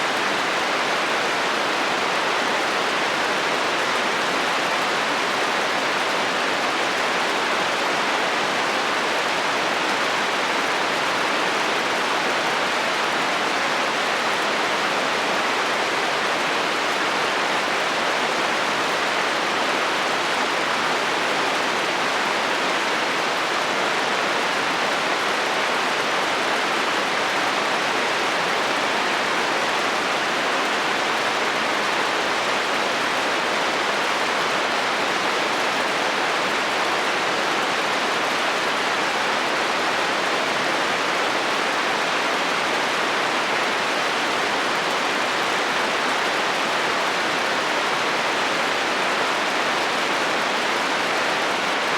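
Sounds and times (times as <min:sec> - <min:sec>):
heavy rain on a metal roof: 0:00.0 - 0:51.9.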